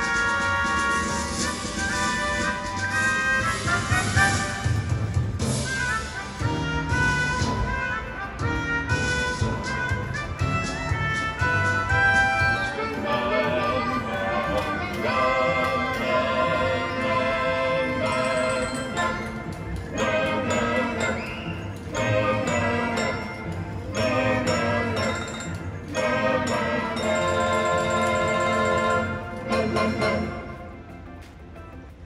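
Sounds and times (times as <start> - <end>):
music over loudspeakers: 0.0 - 32.0.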